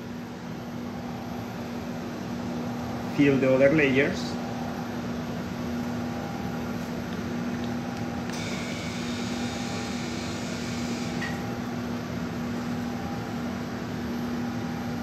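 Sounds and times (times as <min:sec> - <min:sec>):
mechanical hum low drone: 0:00.0 - 0:15.0.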